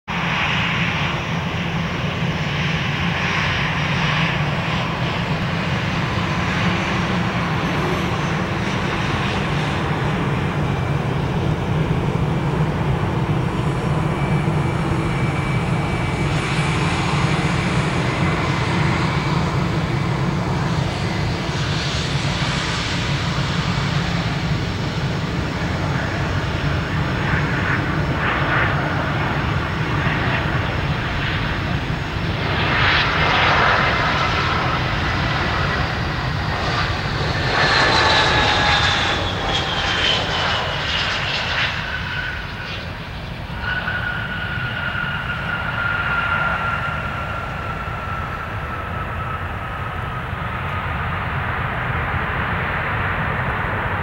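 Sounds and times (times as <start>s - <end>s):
jet engines rumbling: 0.1s - 54.0s.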